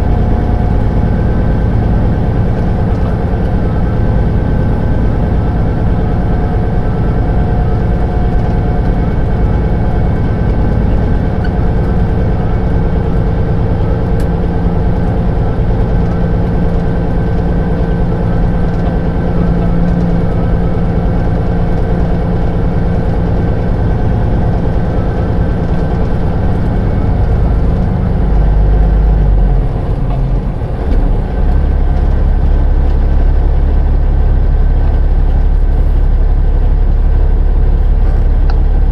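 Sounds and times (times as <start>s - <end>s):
diesel truck engine driving: 0.0s - 38.9s.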